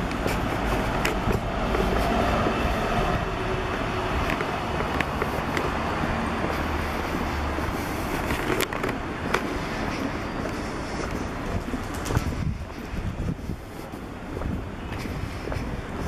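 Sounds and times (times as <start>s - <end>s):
traffic engine rumble: 0.0s - 16.0s.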